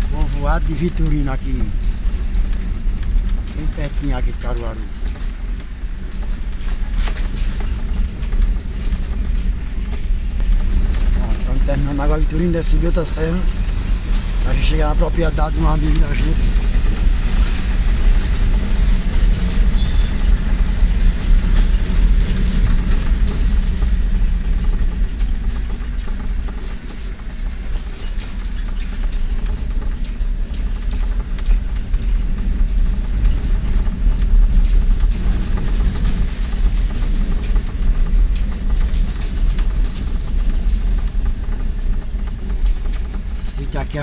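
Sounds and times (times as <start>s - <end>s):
rattles and knocks: 0.0s - 44.0s
vehicle engine and tyre rumble: 0.0s - 44.0s.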